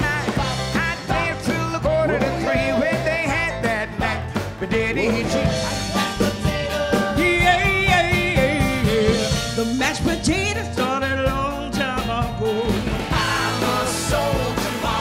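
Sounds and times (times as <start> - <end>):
woman singing: 0.0 - 13.0
live band with guitars and drums: 0.0 - 15.0.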